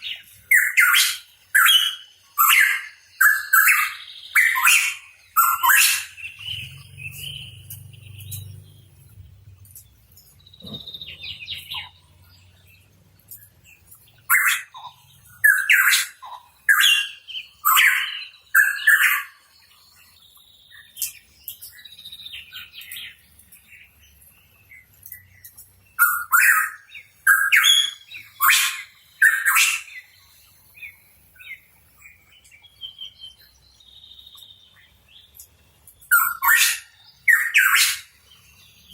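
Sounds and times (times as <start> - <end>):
soft bird chirps: 0.0 - 38.9.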